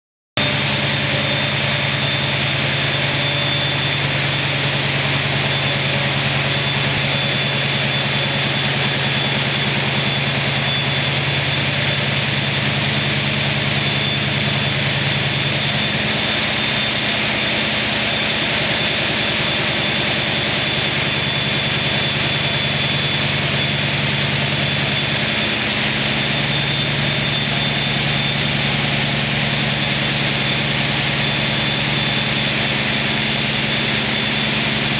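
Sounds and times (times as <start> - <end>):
diesel locomotive engine idling: 0.4 - 34.9
high whine: 0.4 - 34.9.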